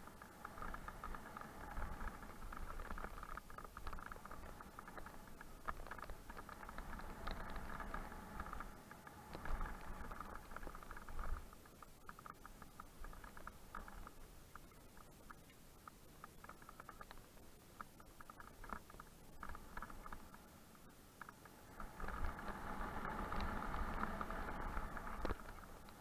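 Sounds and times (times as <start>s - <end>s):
mountain bike rattling and clicking: 0.0s - 20.5s, 21.2s - 26.0s.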